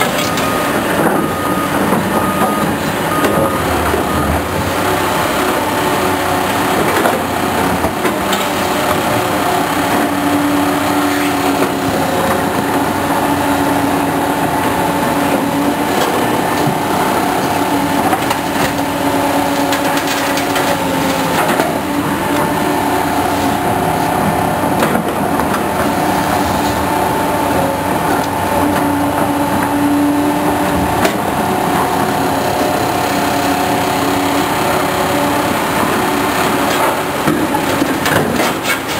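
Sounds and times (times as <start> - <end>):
diesel engines droning: 0.0 - 38.9.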